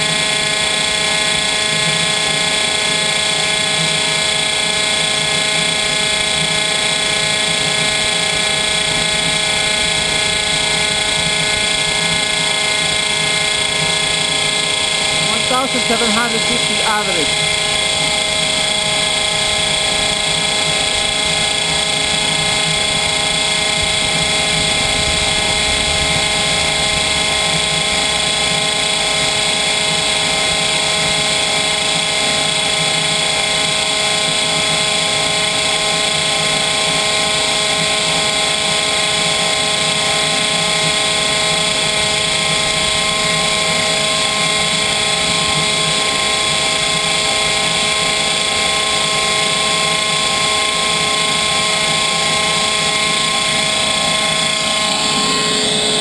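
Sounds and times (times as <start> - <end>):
gas turbine whine: 0.0 - 56.0.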